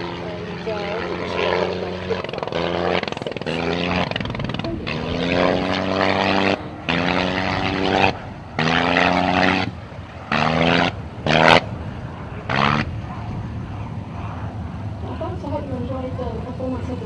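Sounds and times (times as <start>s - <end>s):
aircraft rotary engine cutting in and out: 0.0s - 17.0s.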